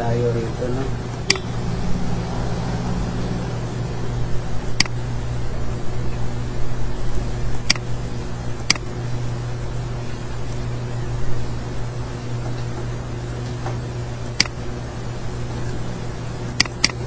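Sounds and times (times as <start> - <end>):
low machine hum and hiss: 0.0 - 17.0.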